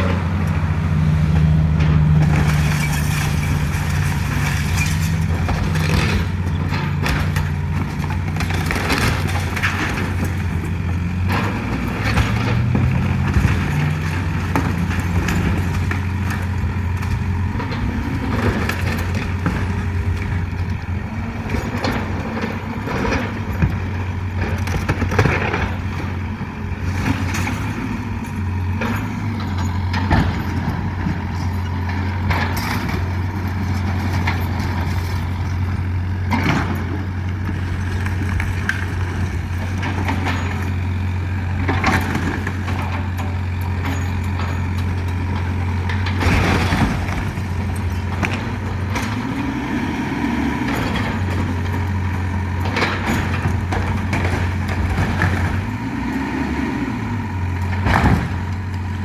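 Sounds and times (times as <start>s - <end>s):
excavator diesel engine running: 0.0s - 59.0s
sharp cracks and knocks: 1.3s - 49.4s, 57.3s - 59.0s.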